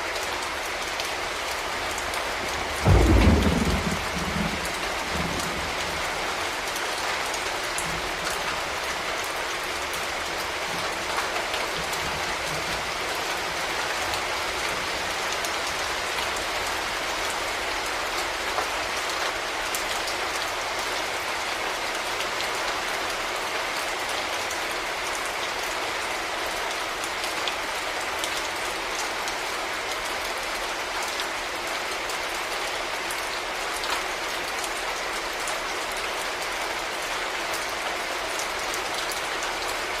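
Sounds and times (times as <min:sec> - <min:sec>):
rain pattering: 0:00.0 - 0:40.0.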